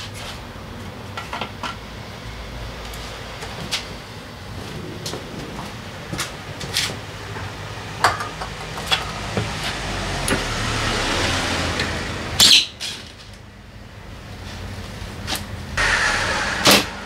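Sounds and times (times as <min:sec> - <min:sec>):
steady hum: 0:00.0 - 0:12.4, 0:13.4 - 0:17.0.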